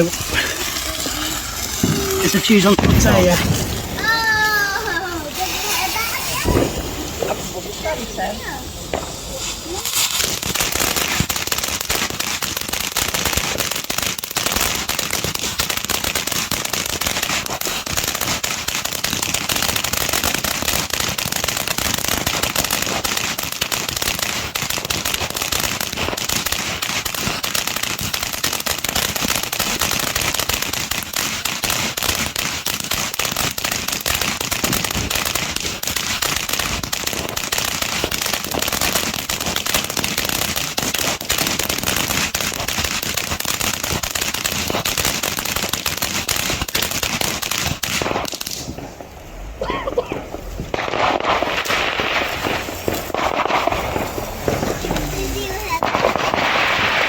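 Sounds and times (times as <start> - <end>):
fireworks cracking and popping: 0.0 - 57.0.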